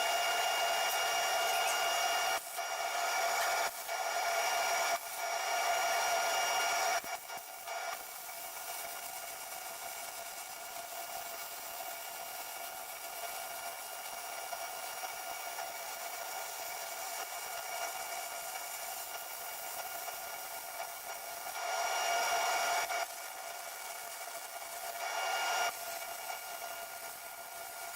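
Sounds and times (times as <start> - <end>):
arc welding hiss and crackle: 0.0 - 27.9.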